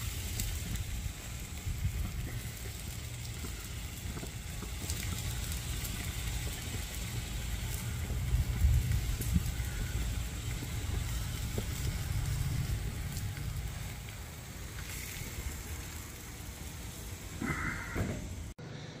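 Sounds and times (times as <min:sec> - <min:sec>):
low uneven rumble: 0:00.0 - 0:18.6
meat sizzling on grill: 0:00.0 - 0:18.6.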